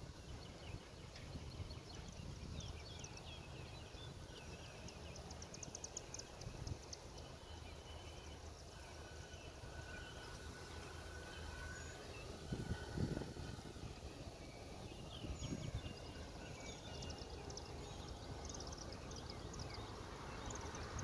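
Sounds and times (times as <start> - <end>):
birds chirping and trilling: 0.0 - 21.0
low outdoor rumble: 0.0 - 21.0.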